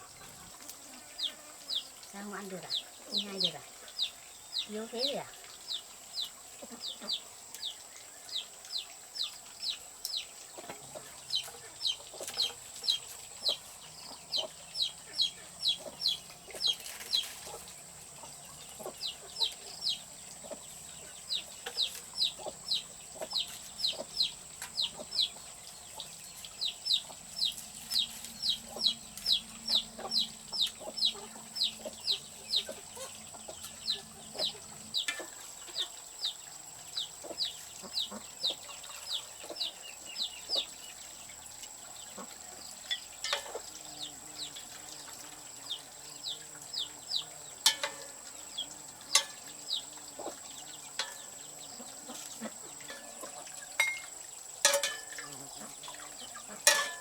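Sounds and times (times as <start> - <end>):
chicks peeping: 0.0 - 54.2.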